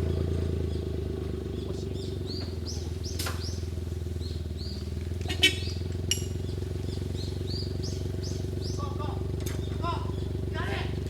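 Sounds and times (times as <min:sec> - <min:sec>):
car engine idling: 0:00.0 - 0:11.0
high chirping calls: 0:00.1 - 0:10.5.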